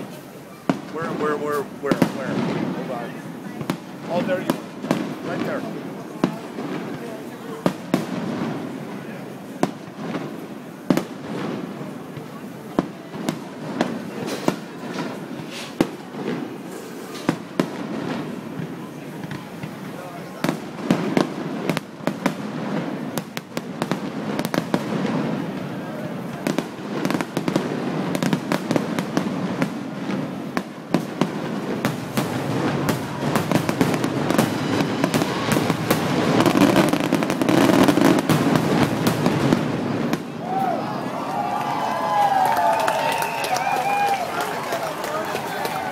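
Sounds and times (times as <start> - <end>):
fireworks bursting with sharp bangs: 0.0 - 45.9.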